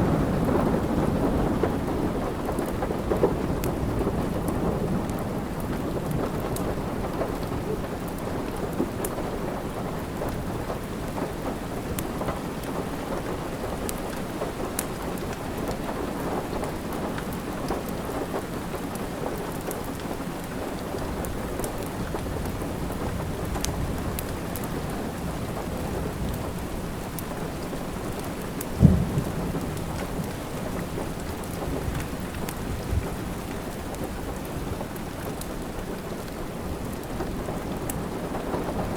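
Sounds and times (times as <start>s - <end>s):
steady rain: 0.0s - 38.9s
wood fire crackling: 7.3s - 38.8s.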